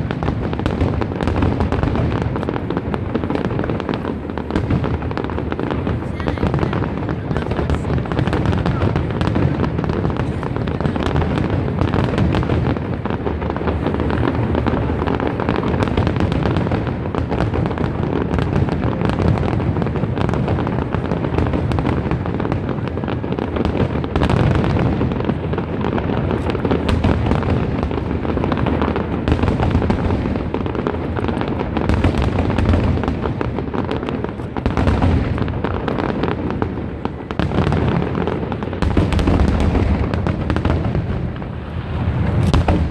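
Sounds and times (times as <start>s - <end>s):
fireworks booming and crackling: 0.0s - 42.9s.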